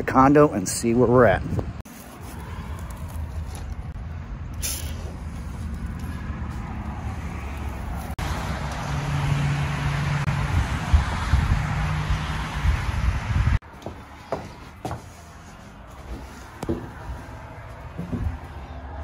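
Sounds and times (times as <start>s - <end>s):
passing cars rumbling: 1.6s - 19.0s.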